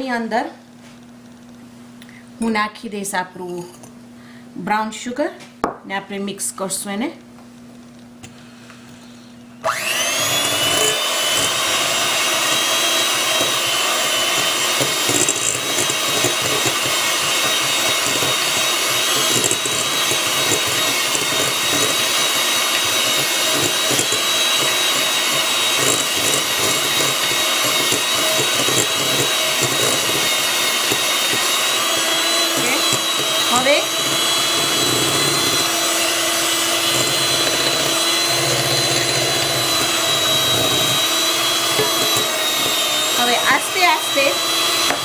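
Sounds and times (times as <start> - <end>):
electric hand mixer whining: 8.5 - 45.0.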